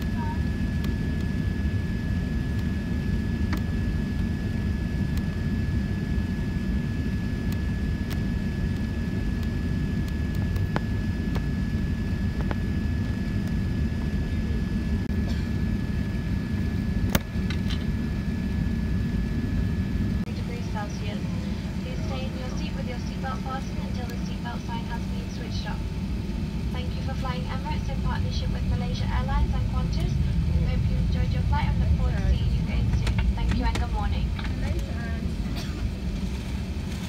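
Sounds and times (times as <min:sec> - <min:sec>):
aircraft cabin engine roar: 0:00.0 - 0:37.0.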